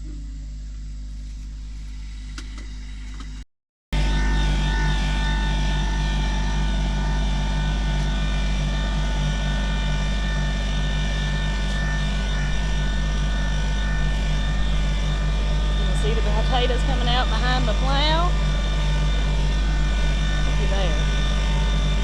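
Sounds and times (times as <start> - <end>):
tractor diesel engine running: 4.0 - 22.0.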